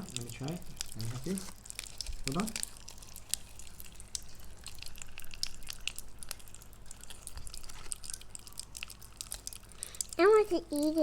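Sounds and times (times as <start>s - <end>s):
popping candy crackling: 0.0s - 11.0s
wet clicks and drips from jelly: 0.0s - 11.0s.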